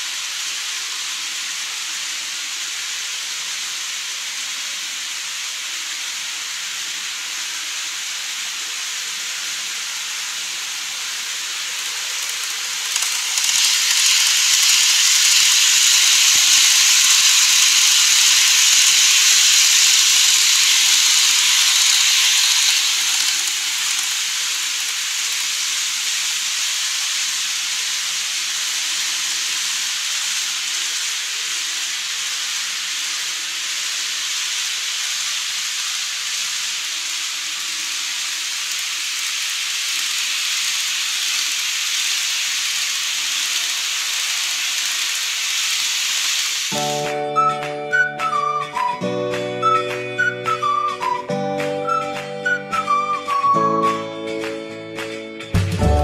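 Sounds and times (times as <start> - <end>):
model train whirring: 0.0 - 54.5.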